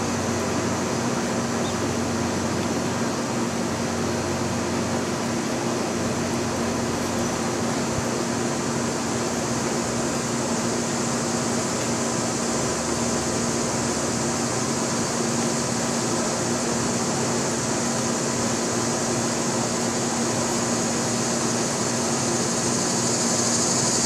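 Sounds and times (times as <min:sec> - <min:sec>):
water spraying from sprinkler: 0:00.0 - 0:24.0.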